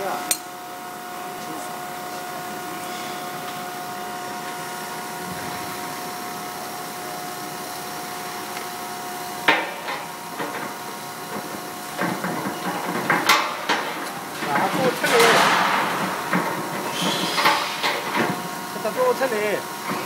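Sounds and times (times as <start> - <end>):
machine hum with faint whine: 0.0 - 20.0.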